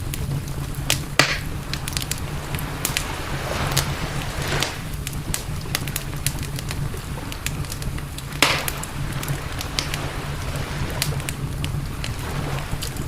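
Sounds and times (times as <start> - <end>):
campfire crackling and popping: 0.0 - 13.0
steady low rumble: 0.0 - 13.0.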